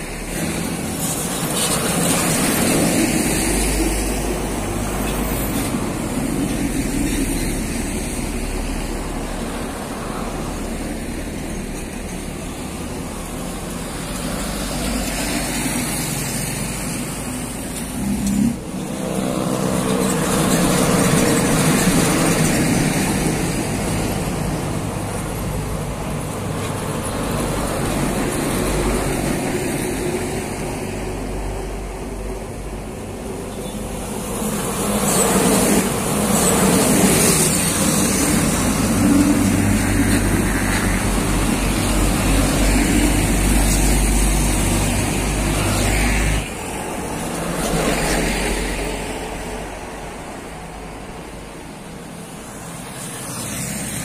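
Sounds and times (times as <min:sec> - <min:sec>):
heavy vehicle engine droning: 0:00.0 - 0:54.0
road traffic passing: 0:00.0 - 0:54.0.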